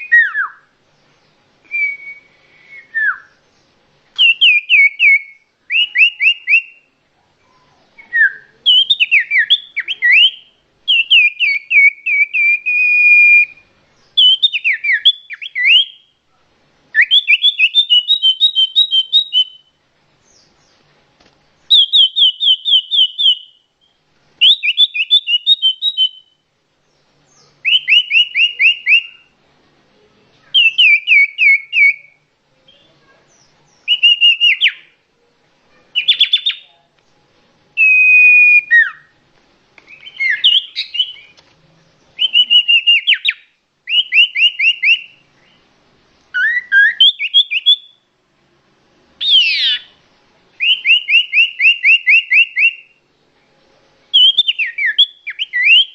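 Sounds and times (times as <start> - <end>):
songbird singing whistled notes: 0.0 - 16.2, 16.9 - 20.9, 21.6 - 29.4, 30.4 - 35.0, 35.7 - 36.8, 37.8 - 39.2, 39.8 - 45.7, 46.3 - 48.1, 49.2 - 50.0, 50.6 - 53.1, 54.0 - 55.9.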